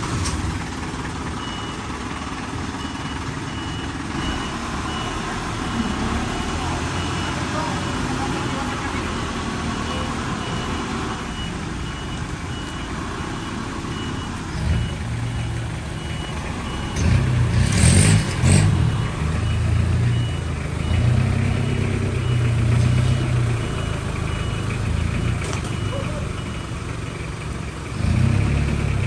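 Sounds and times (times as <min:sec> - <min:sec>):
diesel truck engine running: 0:00.0 - 0:29.0
reversing alarm beeping: 0:01.4 - 0:01.8, 0:02.8 - 0:26.8.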